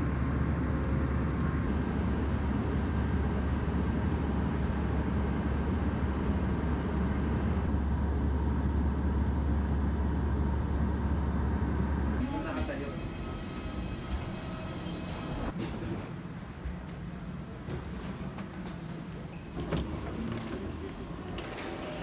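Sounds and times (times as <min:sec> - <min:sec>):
airliner cabin rumble and hiss: 0:00.0 - 0:21.9.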